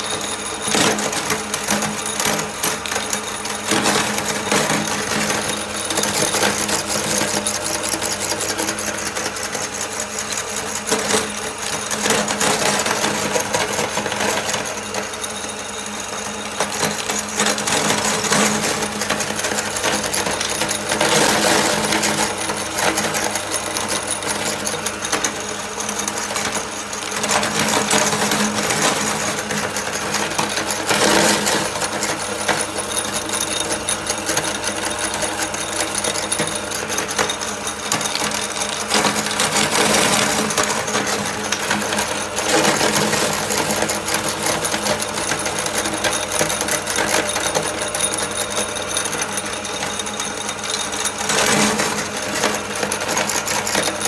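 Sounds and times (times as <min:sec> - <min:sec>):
meat grinder crunching cookies: 0:00.0 - 0:54.0.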